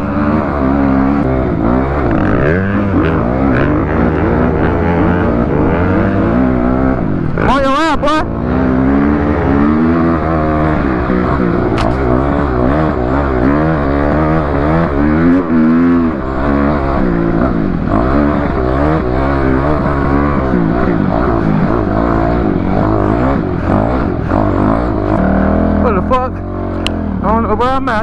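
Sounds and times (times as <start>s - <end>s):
low road hum: 0.0s - 28.0s
vehicle engine running: 0.0s - 28.0s.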